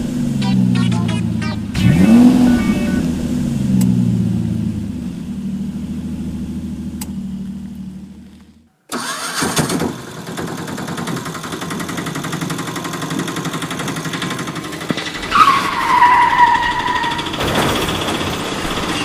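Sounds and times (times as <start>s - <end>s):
engine puttering: 0.0s - 19.0s.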